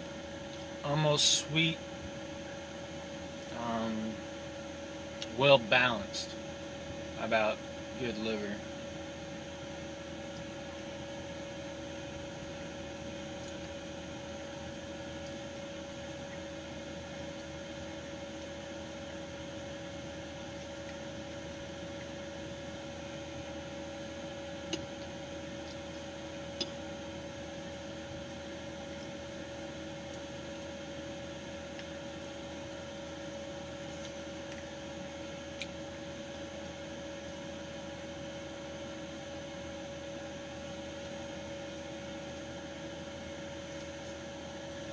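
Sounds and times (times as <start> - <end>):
appliance hum: 0.0 - 44.9.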